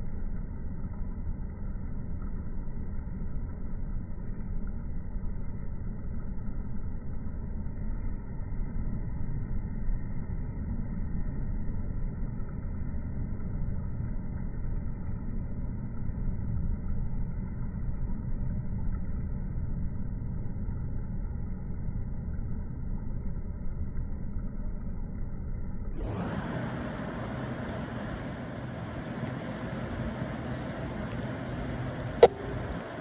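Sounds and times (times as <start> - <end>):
low outdoor background rumble: 0.0 - 33.0.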